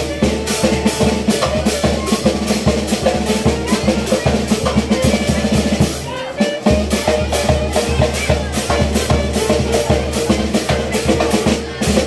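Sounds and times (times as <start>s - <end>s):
bass drum and cymbal beat: 0.0s - 12.0s
wind instrument melody: 0.0s - 12.0s.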